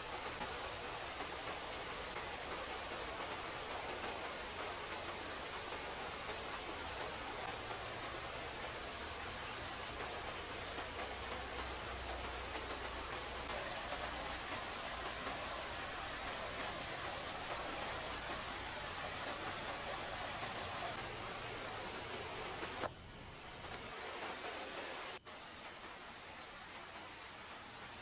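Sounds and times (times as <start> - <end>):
stream water flowing: 0.0 - 22.9
high insect drone: 0.0 - 24.1.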